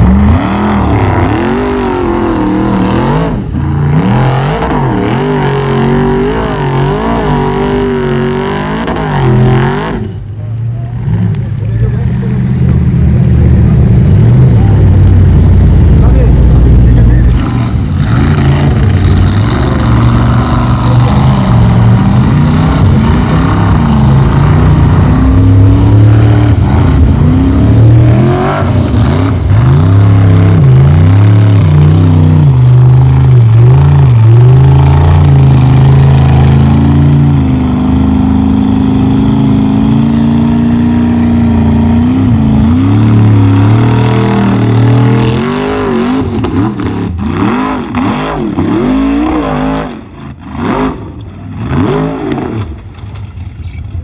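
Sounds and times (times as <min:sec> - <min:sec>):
race truck engine revving: 0:00.0 - 0:54.0.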